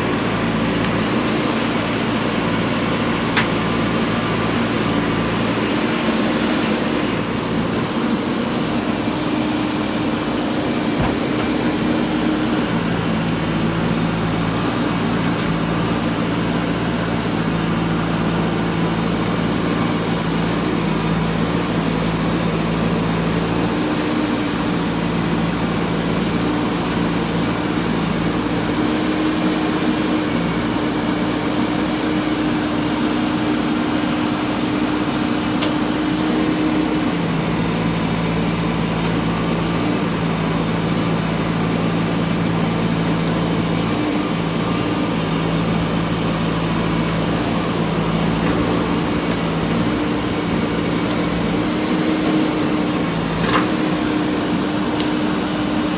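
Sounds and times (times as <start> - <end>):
backhoe diesel engine running: 0.0 - 55.9.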